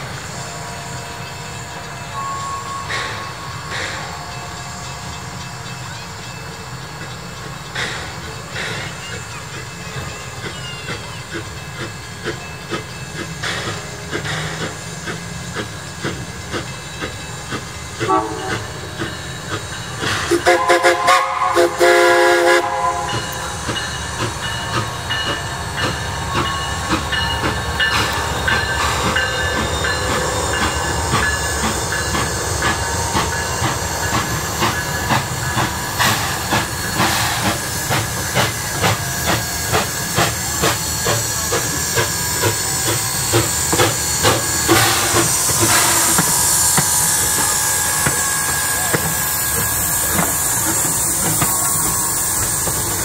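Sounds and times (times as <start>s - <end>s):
steam locomotive chuffing: 0.0s - 53.0s
train signal blasts: 0.0s - 53.0s.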